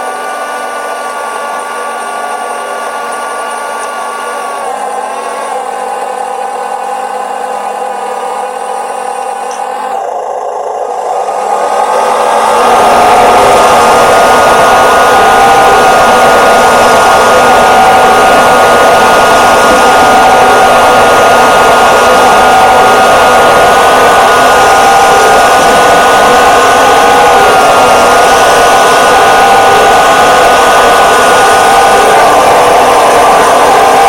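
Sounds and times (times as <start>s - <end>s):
small electric motor whining: 0.0s - 34.0s.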